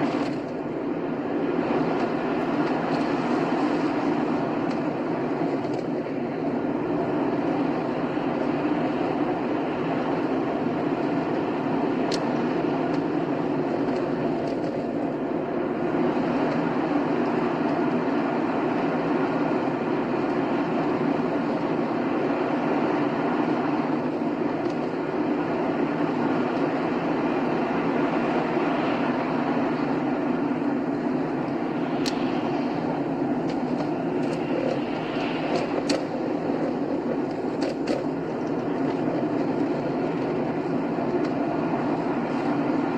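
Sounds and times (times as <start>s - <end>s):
car driving on highway: 0.0s - 42.9s.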